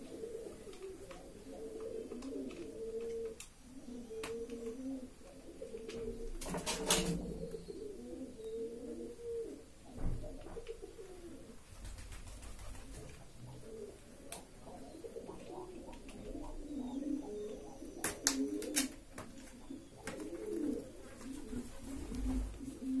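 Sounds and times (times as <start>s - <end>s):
low wavering cooing calls: 0.0s - 11.6s, 12.9s - 23.0s.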